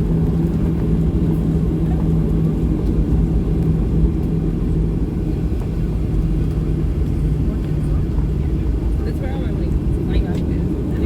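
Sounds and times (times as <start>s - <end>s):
constant low hum: 0.0s - 11.0s
jet engine deep rumble: 0.0s - 11.0s.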